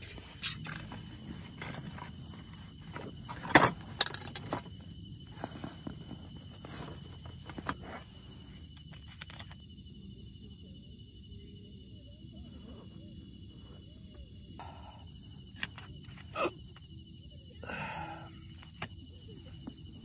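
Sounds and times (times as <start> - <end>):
high insect trill: 0.0 - 20.0.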